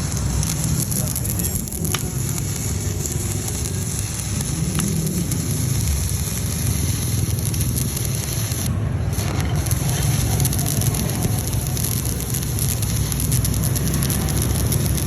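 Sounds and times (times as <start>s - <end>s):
welding arc crackling and sizzling: 0.0s - 15.0s.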